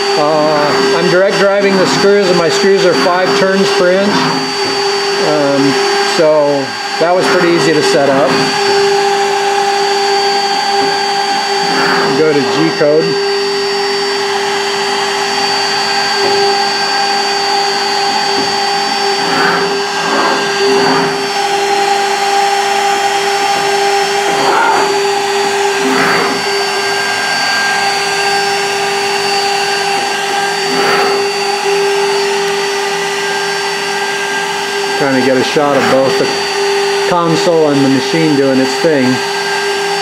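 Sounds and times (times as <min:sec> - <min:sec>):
router spindle whining: 0:00.0 - 0:40.0.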